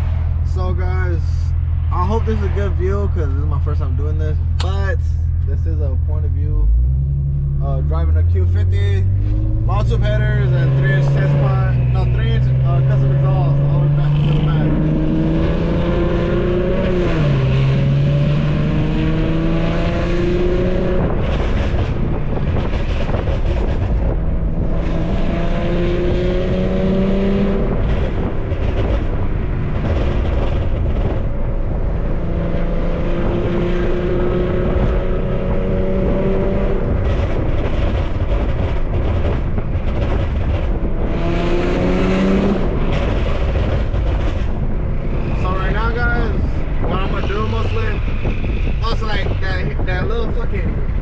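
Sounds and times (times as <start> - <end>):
car engine accelerating with upshifts: 5.4 - 51.0.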